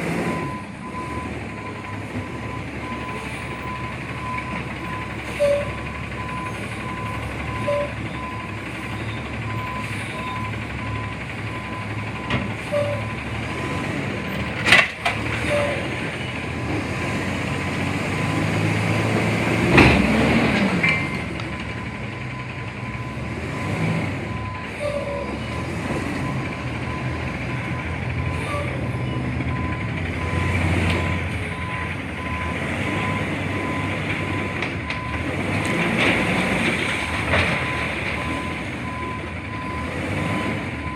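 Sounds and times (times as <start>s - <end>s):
garbage truck engine running: 0.0s - 40.9s
reverse alarm beeping: 0.2s - 14.6s, 15.5s - 35.3s, 37.2s - 40.9s.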